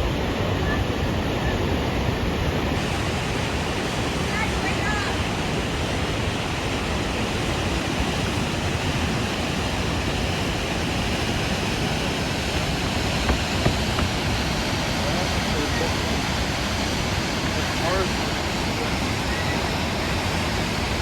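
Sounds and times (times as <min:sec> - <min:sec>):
large waterfall rushing: 0:00.0 - 0:21.0.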